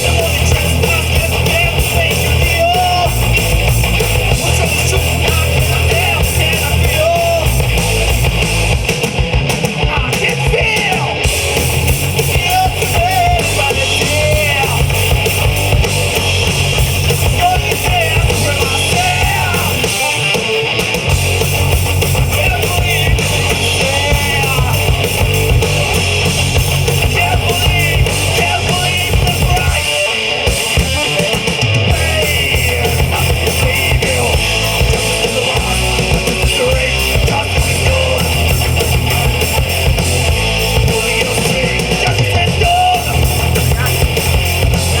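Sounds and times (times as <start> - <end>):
live rock band: 0.0 - 45.0.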